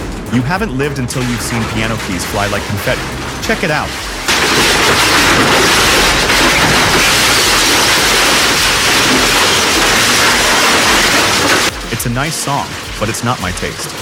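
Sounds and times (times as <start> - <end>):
shredder crunching wood: 0.0 - 14.0.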